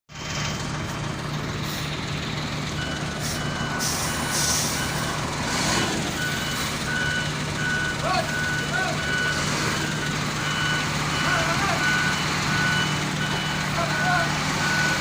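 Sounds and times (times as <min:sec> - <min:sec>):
bulldozer diesel engine running: 0:00.1 - 0:15.0
reversing alarm beeping: 0:02.7 - 0:15.0.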